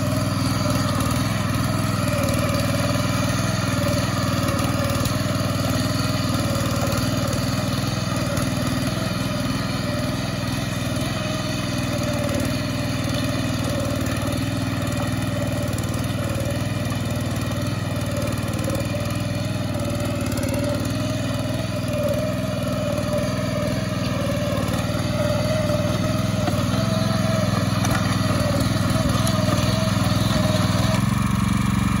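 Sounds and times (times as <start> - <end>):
power weeder engine running: 0.0 - 32.0
tines tilling wet mud: 0.0 - 32.0.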